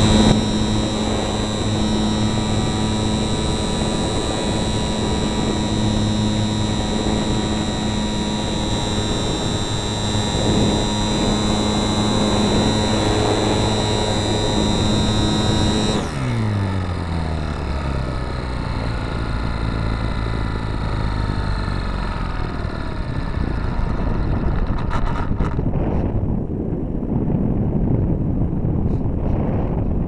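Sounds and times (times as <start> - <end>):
model plane motor whine: 0.0 - 26.1
low hum: 0.0 - 30.0.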